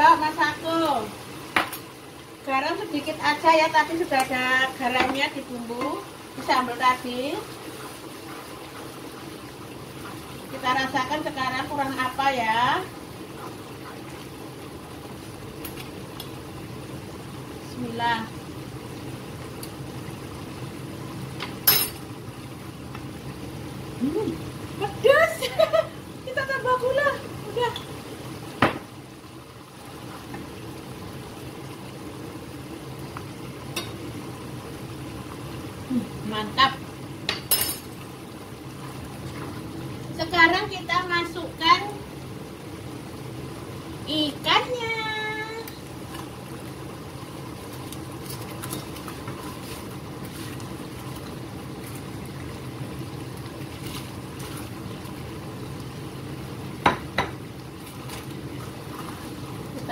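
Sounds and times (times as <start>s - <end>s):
sauce bubbling in a pan: 0.0s - 59.9s.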